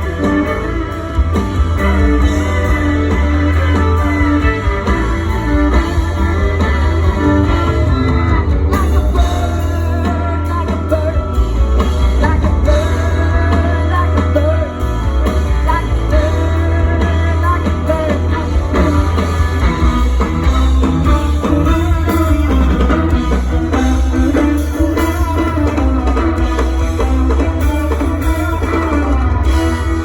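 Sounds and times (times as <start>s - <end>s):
live rock band music: 0.0s - 30.0s.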